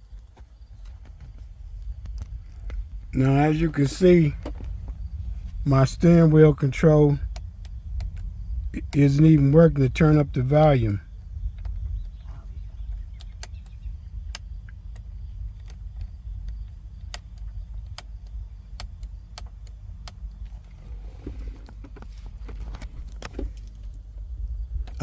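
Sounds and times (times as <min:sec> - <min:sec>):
low rumble: 0:00.6 - 0:25.0.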